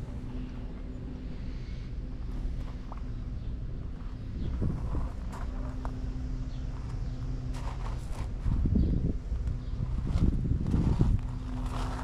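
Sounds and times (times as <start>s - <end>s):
road rumble: 0.0s - 12.0s.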